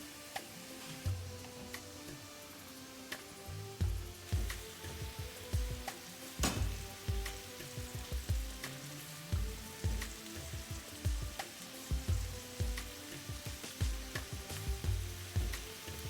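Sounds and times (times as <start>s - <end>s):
food sizzling in a pan: 0.0s - 16.0s
background music with low beat: 0.3s - 16.0s.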